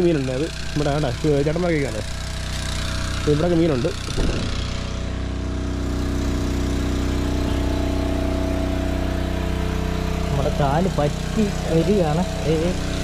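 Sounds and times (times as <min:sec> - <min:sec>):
small petrol engine running: 0:00.0 - 0:13.0.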